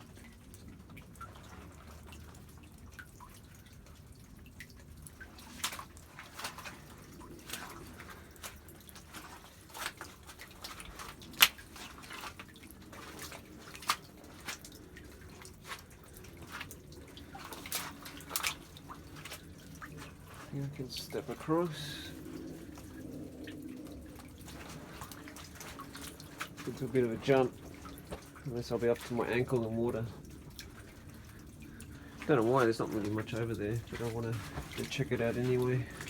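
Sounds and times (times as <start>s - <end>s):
creek water trickling: 0.0s - 36.0s
water drips and plops: 0.0s - 36.0s.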